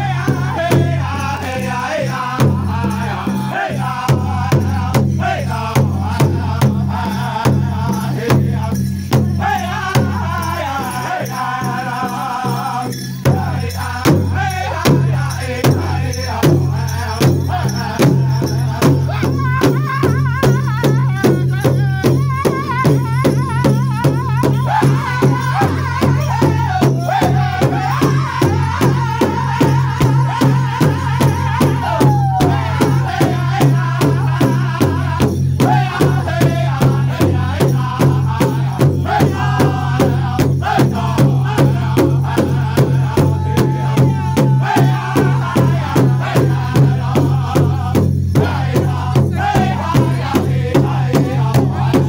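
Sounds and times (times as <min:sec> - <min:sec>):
drum beating fast unison beat: 0:00.0 - 0:52.0
group singing wavering melody: 0:00.0 - 0:52.0.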